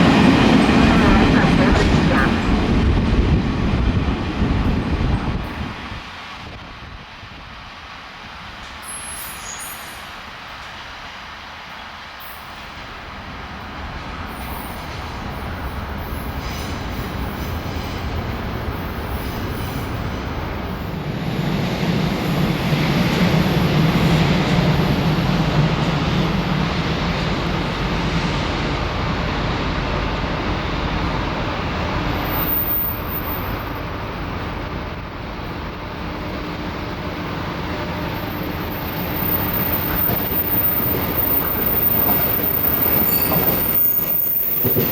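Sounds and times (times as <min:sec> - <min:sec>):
freight train passing: 0:00.0 - 0:44.9.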